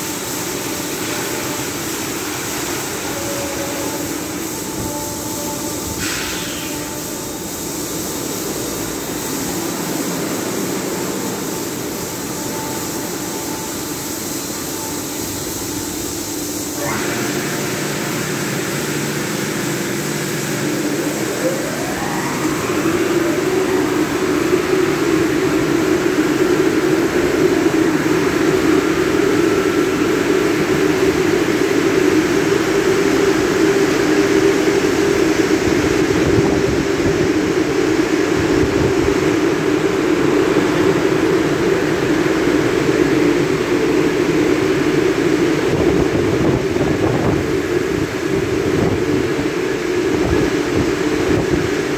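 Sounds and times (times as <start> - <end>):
car wash drying blowers rushing air: 0.0 - 51.9.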